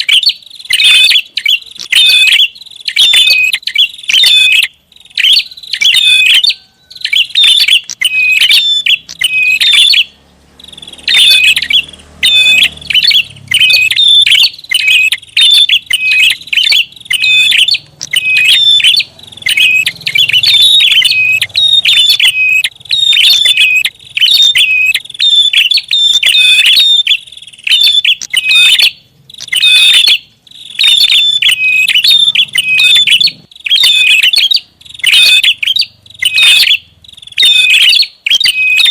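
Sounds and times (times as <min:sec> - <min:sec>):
bird rapid sharp chirps: 0:00.0 - 0:38.9.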